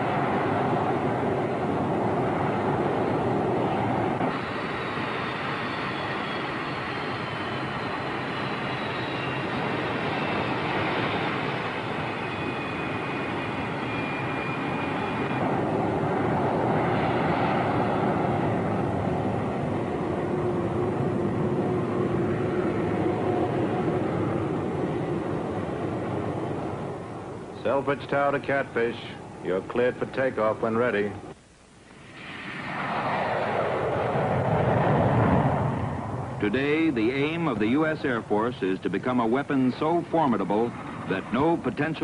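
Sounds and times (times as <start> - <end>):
jet engines roaring: 0.0 - 31.4, 32.0 - 42.0.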